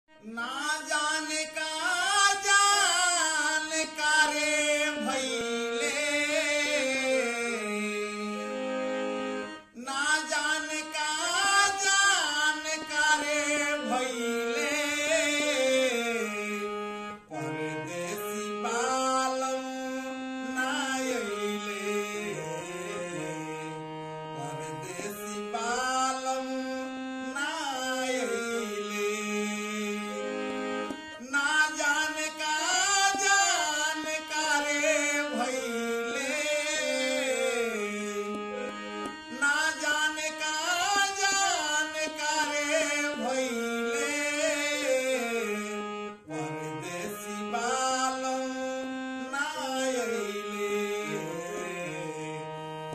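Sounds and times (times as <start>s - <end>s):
harmonium melody: 0.0s - 52.9s
man singing: 0.1s - 52.9s.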